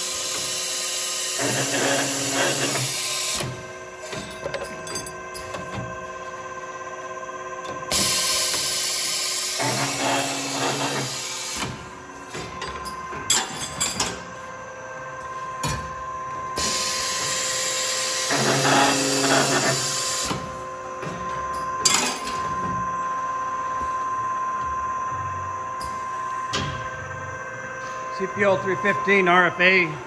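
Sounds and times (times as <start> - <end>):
machine whine: 0.0 - 30.0.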